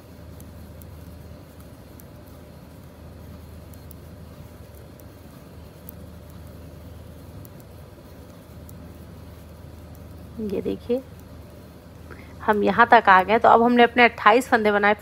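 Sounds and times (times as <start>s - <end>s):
knitting needles ticking: 0.0s - 15.0s
low background hum: 0.0s - 15.0s.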